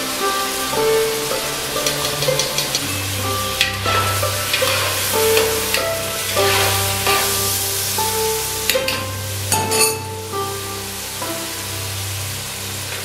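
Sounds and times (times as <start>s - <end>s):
background music with held notes: 0.0s - 13.0s
food sizzling in oil: 0.1s - 11.8s.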